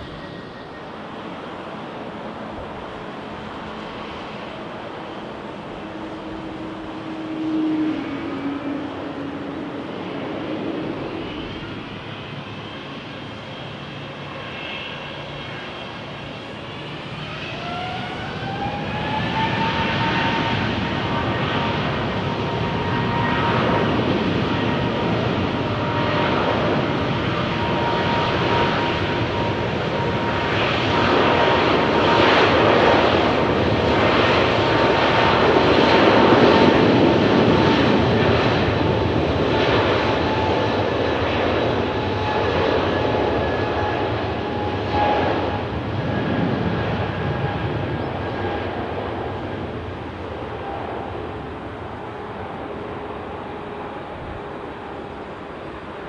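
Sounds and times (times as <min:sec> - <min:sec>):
rising engine whine: 0:03.8 - 0:14.5, 0:15.1 - 0:56.0.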